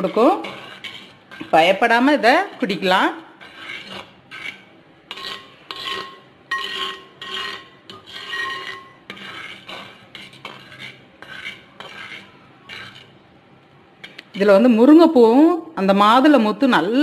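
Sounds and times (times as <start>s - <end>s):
spoon scraping clay pot: 0.0s - 13.4s, 14.0s - 14.7s.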